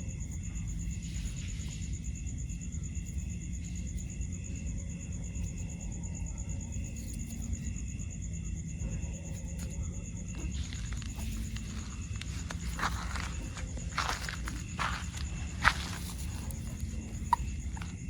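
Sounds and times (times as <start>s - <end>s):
high-pitched insect trill: 0.0s - 18.0s
lower pulsing insect call: 0.0s - 18.0s.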